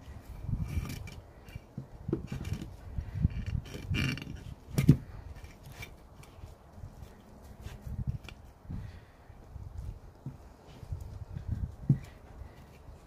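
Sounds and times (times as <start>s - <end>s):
soft handling thumps and scrapes: 0.0s - 13.0s.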